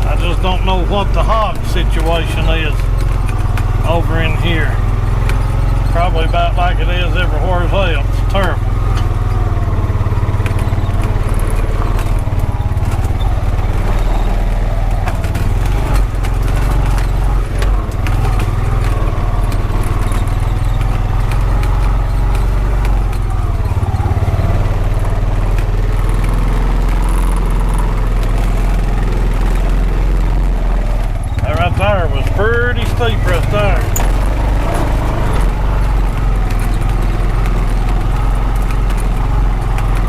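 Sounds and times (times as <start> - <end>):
utility vehicle engine running: 0.0 - 40.0
vehicle clicks and rattles: 0.0 - 40.0.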